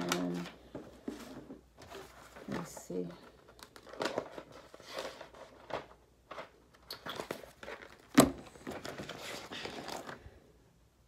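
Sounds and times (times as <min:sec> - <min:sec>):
notebook pages rustling: 0:00.0 - 0:10.4.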